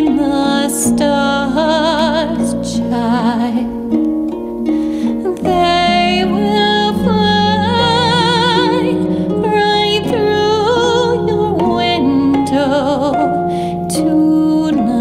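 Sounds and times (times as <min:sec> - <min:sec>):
woman singing a lullaby: 0:00.0 - 0:04.2, 0:05.0 - 0:15.0
soft instrumental accompaniment: 0:00.0 - 0:15.0.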